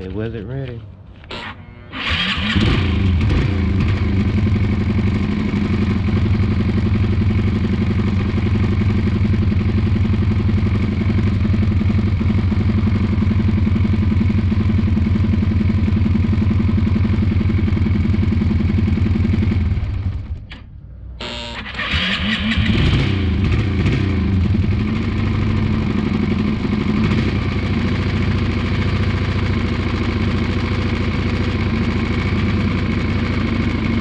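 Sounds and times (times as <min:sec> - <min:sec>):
motorcycle engine idling: 0:02.6 - 0:20.4, 0:21.5 - 0:34.0.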